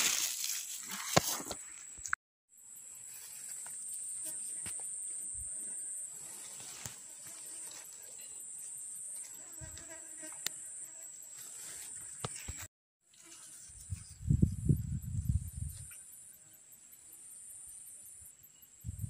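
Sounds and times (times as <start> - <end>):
high-pitched insect drone: 2.5 - 19.0.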